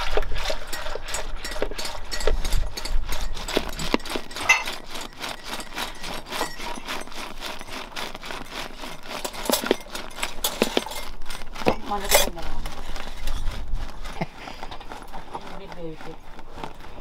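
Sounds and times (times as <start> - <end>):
whisk swishing in milk: 0.0 - 17.0.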